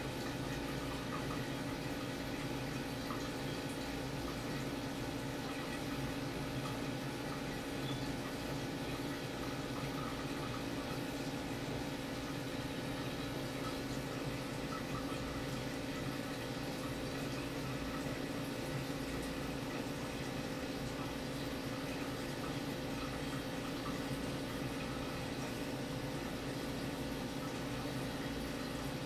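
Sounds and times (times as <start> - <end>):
trickling water: 0.0 - 29.0.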